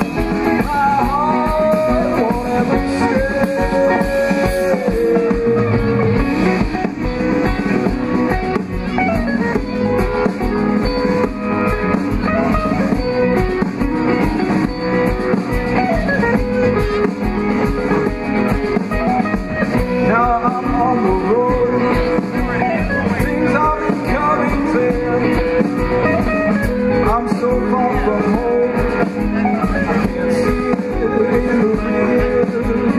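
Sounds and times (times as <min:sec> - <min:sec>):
person singing: 0:00.0 - 0:09.0, 0:12.6 - 0:32.9
guitar-led rock music: 0:00.0 - 0:32.9.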